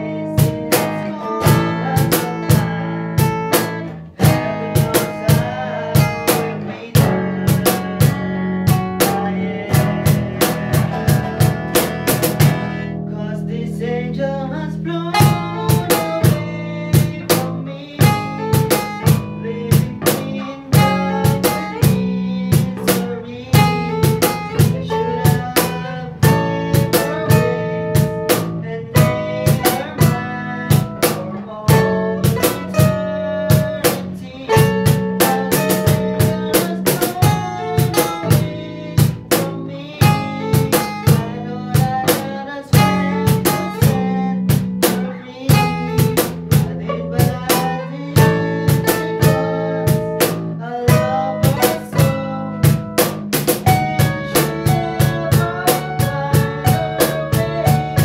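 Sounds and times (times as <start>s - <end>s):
strummed acoustic guitars: 0.0s - 58.0s
box drum hand percussion: 0.3s - 12.9s, 15.1s - 58.0s.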